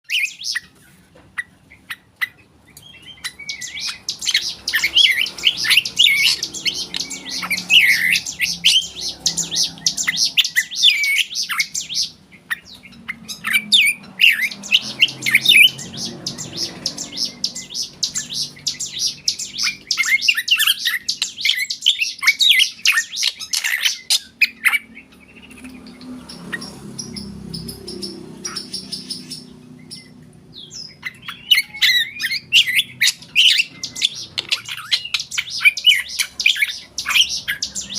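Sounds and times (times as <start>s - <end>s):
bird singing chirps and whistles: 0.1s - 0.7s, 2.7s - 37.9s.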